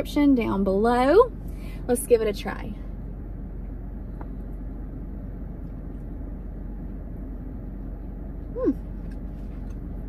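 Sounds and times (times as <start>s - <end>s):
car engine rumble inside cabin: 0.0s - 10.0s.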